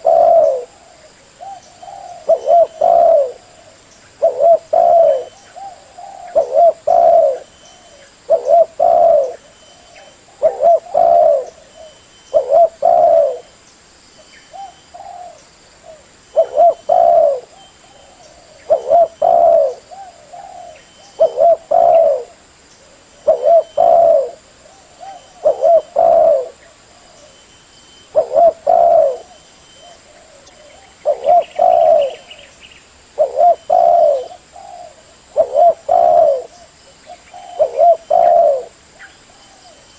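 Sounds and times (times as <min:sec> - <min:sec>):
dove cooing: 0:00.0 - 0:13.5, 0:14.5 - 0:27.4, 0:28.0 - 0:32.5, 0:33.1 - 0:39.9.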